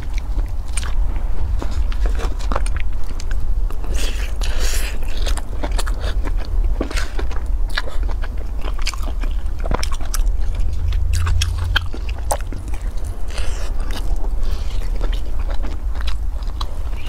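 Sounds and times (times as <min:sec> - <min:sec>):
crunchy chewing of fried food: 0:00.0 - 0:17.0
low steady hum: 0:00.0 - 0:17.0.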